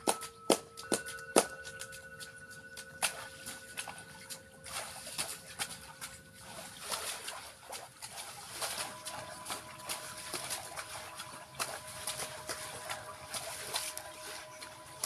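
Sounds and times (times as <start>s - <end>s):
singing bowls ringing: 0.0s - 6.5s, 8.7s - 15.0s
water splashing and dripping: 0.0s - 15.0s.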